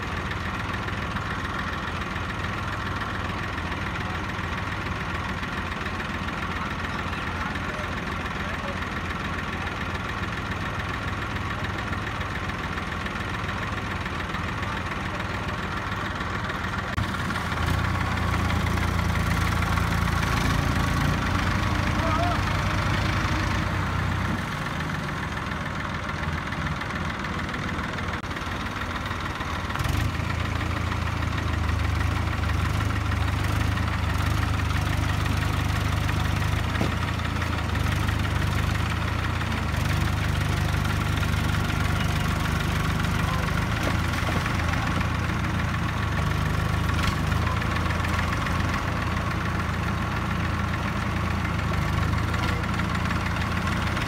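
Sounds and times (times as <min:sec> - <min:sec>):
diesel tractor engine under load: 0:00.0 - 0:54.0.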